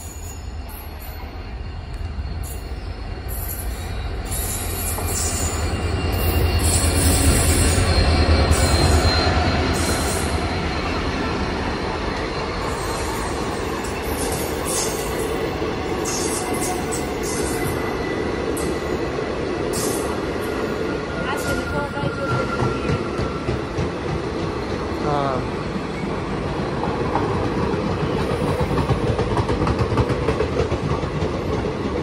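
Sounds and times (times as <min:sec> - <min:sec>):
train coaches rolling: 0:00.0 - 0:32.0.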